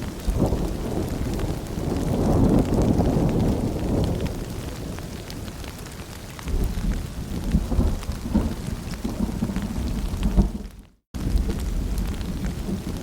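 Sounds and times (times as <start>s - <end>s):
raindrops ticking: 0.0s - 13.0s
rolling thunder: 0.0s - 13.0s
steady rain: 0.0s - 13.0s.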